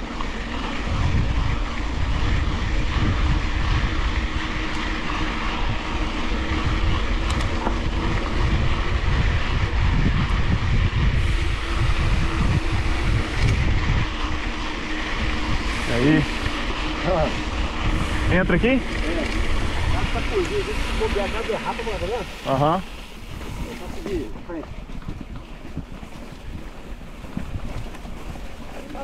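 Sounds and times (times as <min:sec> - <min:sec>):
bike tyres rolling on dirt: 0:00.0 - 0:29.0
wind buffeting microphone: 0:00.0 - 0:29.0.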